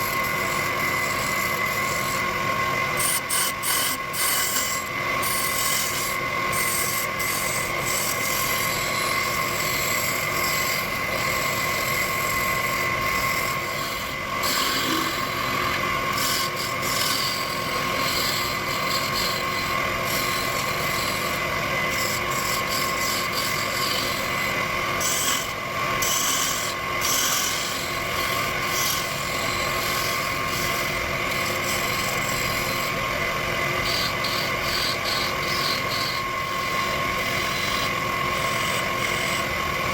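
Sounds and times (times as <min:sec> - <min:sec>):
tool rubbing spinning wood: 0:00.0 - 0:39.9
wood lathe whining: 0:00.0 - 0:39.9.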